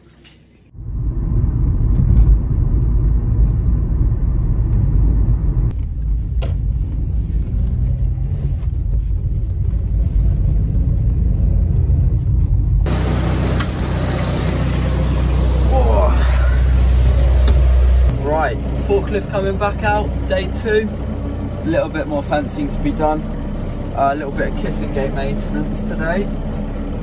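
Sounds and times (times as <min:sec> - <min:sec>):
car engine and tyre rumble: 0:00.7 - 0:27.0.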